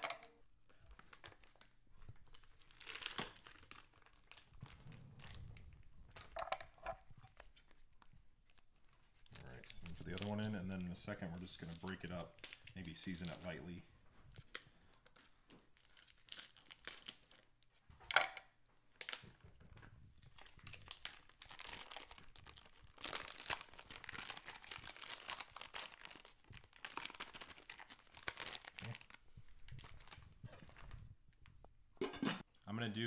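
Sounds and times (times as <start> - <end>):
plastic wrapper crinkling: 0.7 - 17.8, 19.0 - 31.2.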